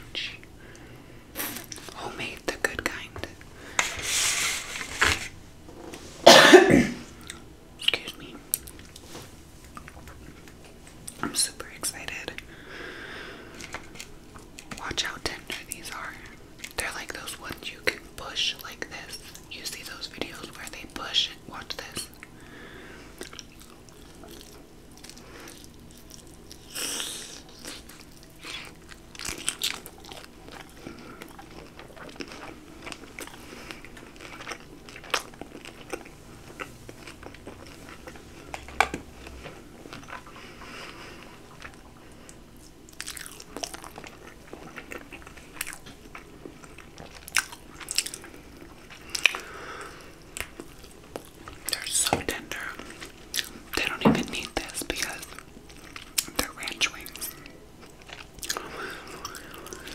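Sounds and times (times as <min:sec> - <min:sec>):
chewing and crunching: 0:07.1 - 0:11.3, 0:13.5 - 0:20.8, 0:22.0 - 0:59.9.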